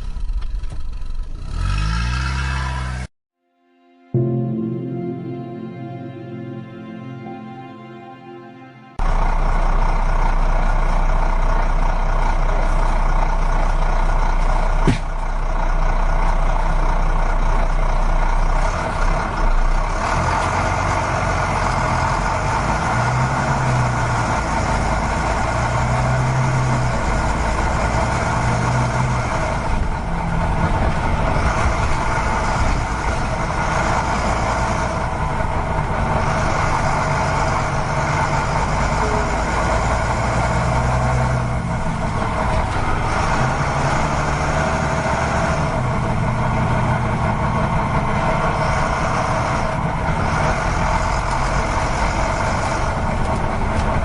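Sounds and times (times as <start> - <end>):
heavy vehicle engine running: 0.0 - 3.1, 9.0 - 54.0.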